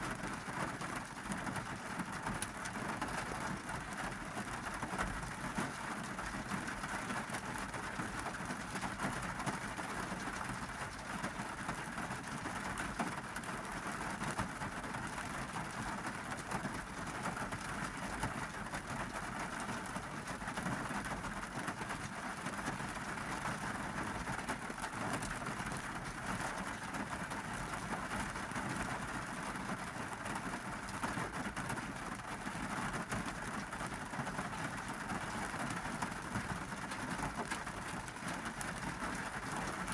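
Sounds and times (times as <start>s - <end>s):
heavy rain on car roof: 0.0s - 39.9s.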